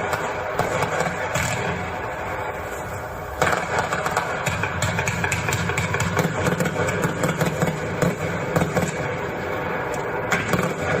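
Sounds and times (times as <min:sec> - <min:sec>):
fireworks firing rapidly: 0:00.0 - 0:11.0.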